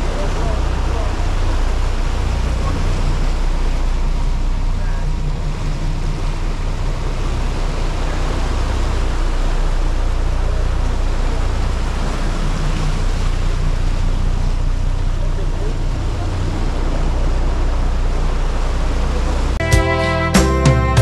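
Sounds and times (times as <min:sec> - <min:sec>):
wind and water rushing: 0:00.0 - 0:19.6
boat engines droning: 0:00.0 - 0:21.0.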